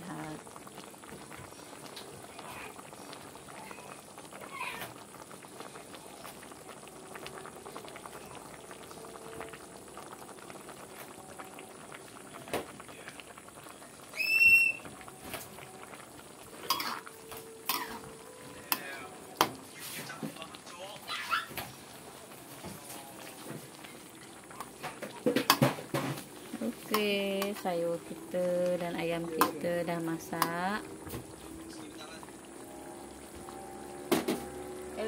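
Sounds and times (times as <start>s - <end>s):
soup bubbling in a wok: 0.0s - 35.0s.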